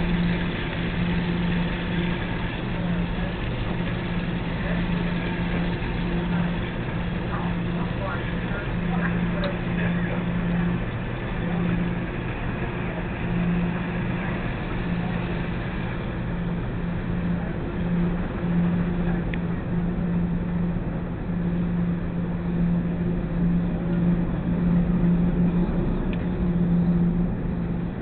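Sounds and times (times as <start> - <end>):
washers and dryers humming: 0.0 - 28.0.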